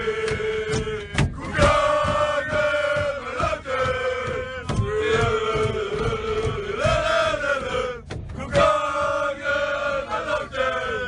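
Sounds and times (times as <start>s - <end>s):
men chanting in unison: 0.0s - 11.0s
steady low beat: 0.0s - 11.0s.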